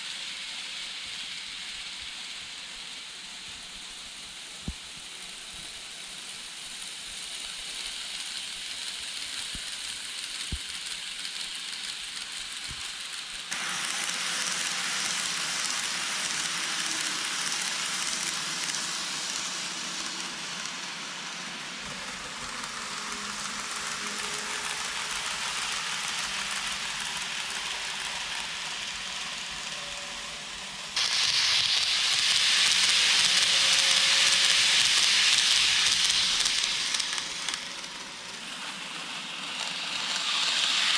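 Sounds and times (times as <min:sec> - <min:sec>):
model train running on track: 0:00.0 - 0:40.9.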